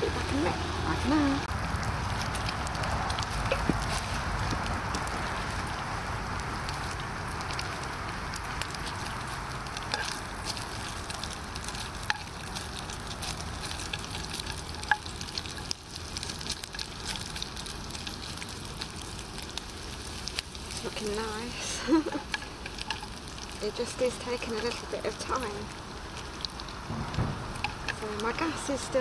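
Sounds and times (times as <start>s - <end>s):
bacon sizzling with crackling pops: 0.2s - 29.0s
utensil moving food in pan: 1.8s - 29.0s.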